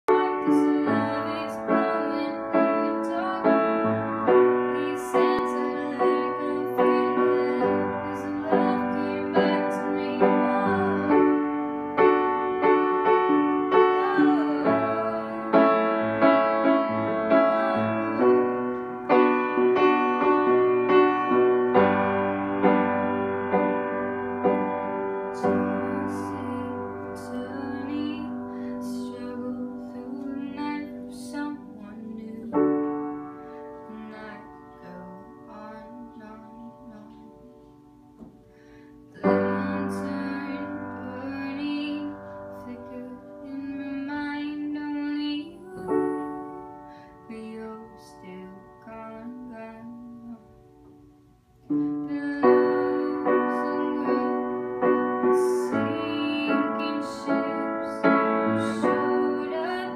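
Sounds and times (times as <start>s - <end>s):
slow piano ballad: 0.0s - 59.9s.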